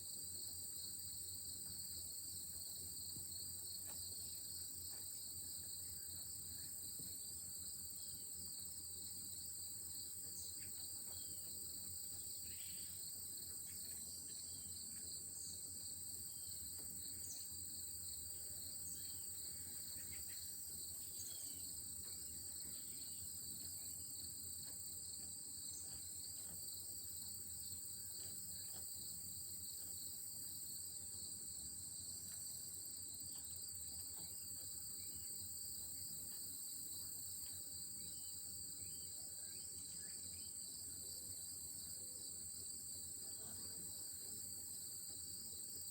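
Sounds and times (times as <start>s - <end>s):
low pulsing cricket song: 0.0s - 45.9s.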